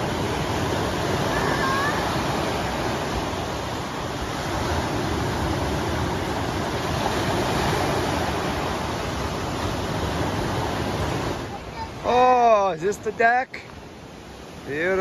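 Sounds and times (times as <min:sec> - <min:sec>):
waves breaking on sandy beach: 0:00.0 - 0:15.0.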